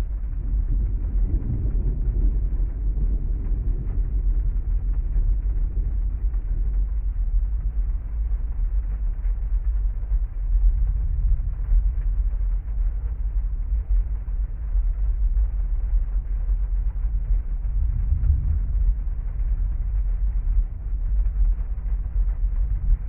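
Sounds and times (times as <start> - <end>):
deep rumble: 0.0 - 23.0.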